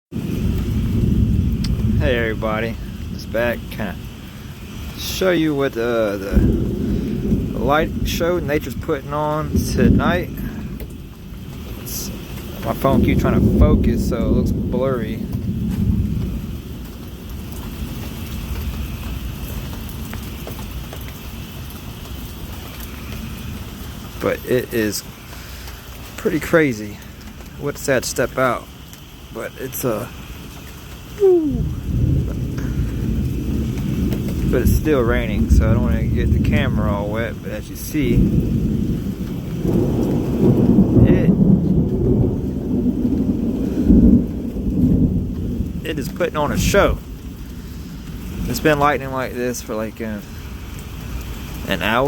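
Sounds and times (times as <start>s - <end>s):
steady rain falling: 0.1s - 52.0s
thunder rumbling: 0.1s - 52.0s.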